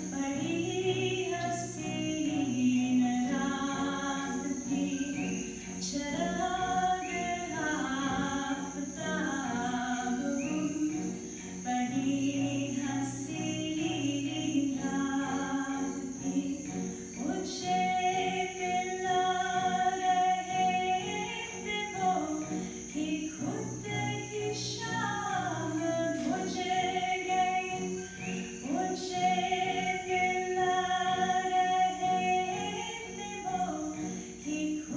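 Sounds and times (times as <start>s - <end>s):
woman singing a waltz: 0.0s - 34.9s.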